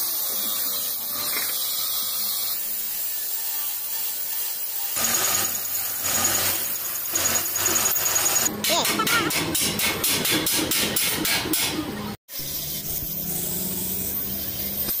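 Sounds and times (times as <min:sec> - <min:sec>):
cut-off saw grinding steel: 0:00.0 - 0:15.0.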